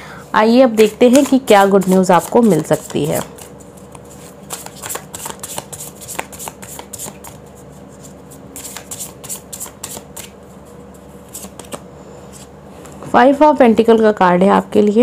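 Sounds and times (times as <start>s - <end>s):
cards being shuffled: 0.8s - 13.0s.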